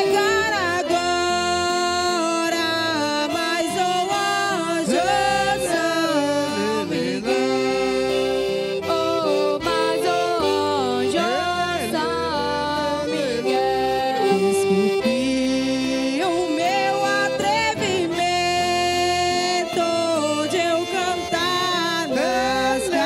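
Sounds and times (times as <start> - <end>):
accordions: 0.0 - 23.0
acoustic guitar: 0.0 - 23.0
woman singing: 0.0 - 23.0.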